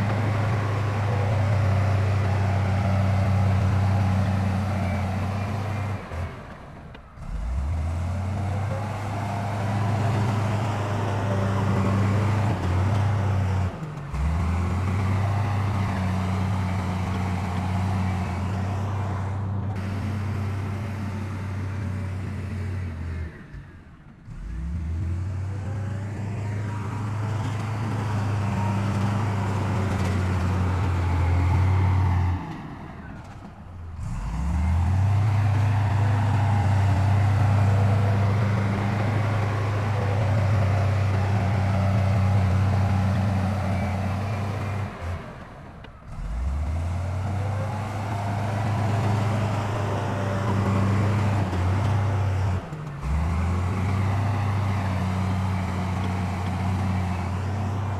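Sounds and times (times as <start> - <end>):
heavy diesel engines running: 0.0 - 57.9.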